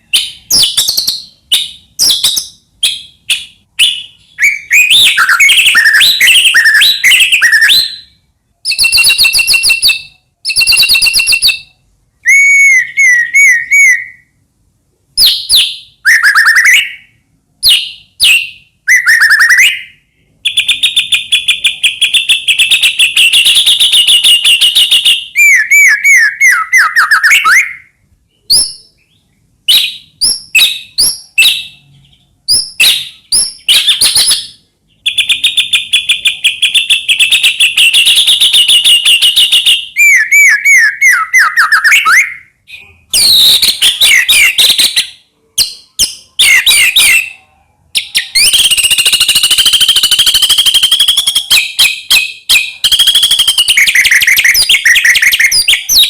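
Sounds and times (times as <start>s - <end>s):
songbird singing loudly: 0.0s - 14.4s, 15.2s - 56.0s.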